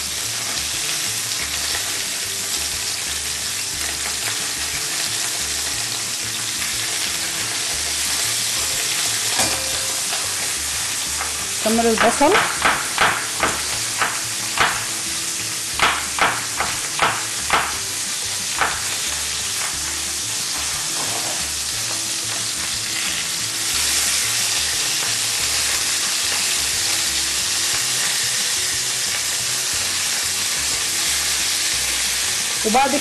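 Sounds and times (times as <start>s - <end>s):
meat sizzling in oil: 0.0s - 33.0s.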